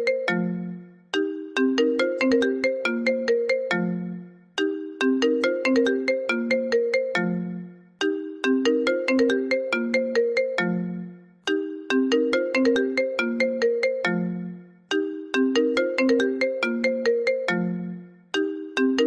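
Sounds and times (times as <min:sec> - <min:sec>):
phone ringtone bell-like notes: 0:00.0 - 0:19.0.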